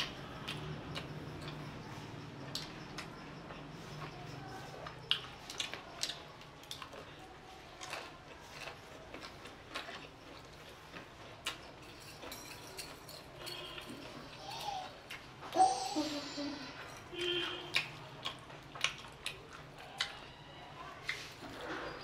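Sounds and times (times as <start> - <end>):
chewing and slurping noodles: 0.0 - 15.5, 16.7 - 22.0.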